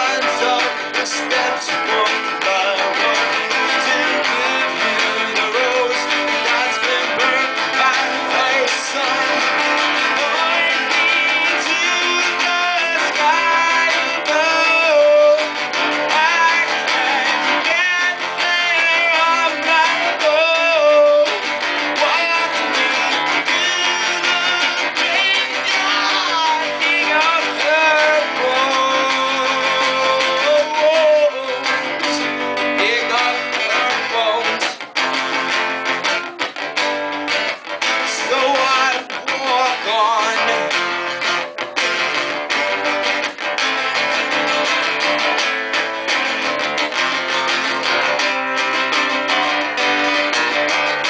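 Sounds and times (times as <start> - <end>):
person singing: 0.0 - 35.0, 37.4 - 43.4
acoustic guitar strumming: 0.0 - 51.0.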